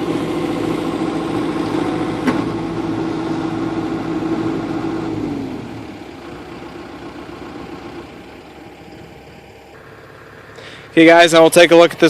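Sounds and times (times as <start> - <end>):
excavator diesel engine whine: 0.0 - 11.7.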